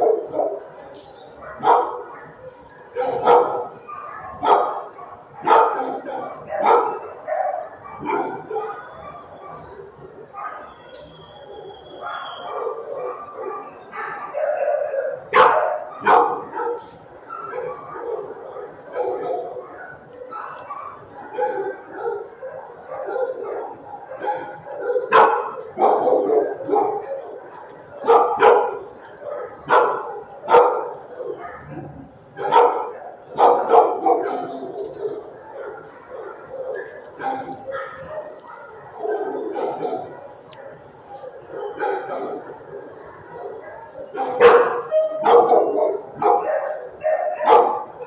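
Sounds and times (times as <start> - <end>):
loud sharp dog barks: 0.0 - 0.7, 1.4 - 8.9, 12.1 - 40.6, 41.6 - 48.0
dogs barking: 0.0 - 48.0.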